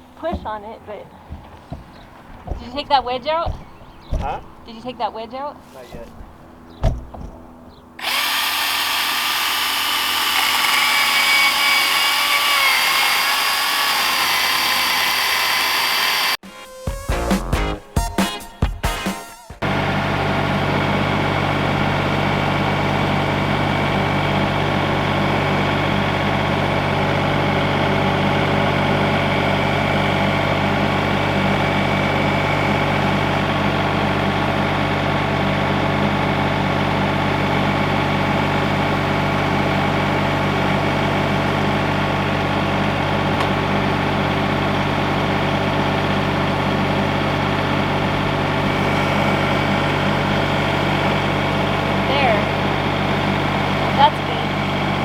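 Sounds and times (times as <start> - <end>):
engine running steadily: 0.0 - 16.4, 19.6 - 55.0.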